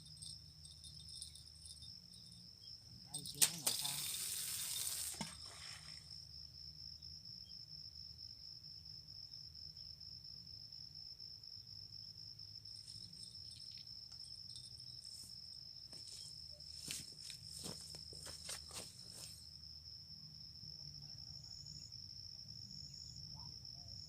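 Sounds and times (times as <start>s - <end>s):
cricket trilling: 0.0s - 24.0s.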